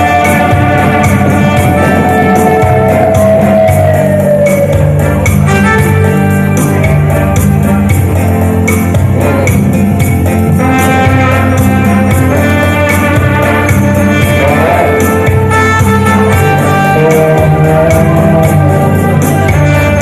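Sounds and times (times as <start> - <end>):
bass line: 0.0 - 20.0
guitar: 0.0 - 20.0
keyboard: 0.0 - 20.0
steady beat: 0.0 - 20.0.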